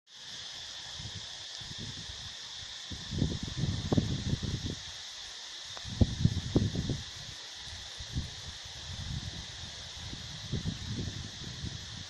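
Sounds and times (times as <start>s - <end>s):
steady high-pitched hiss: 0.1s - 12.0s
wind gusts on microphone: 0.9s - 5.0s, 5.7s - 12.0s.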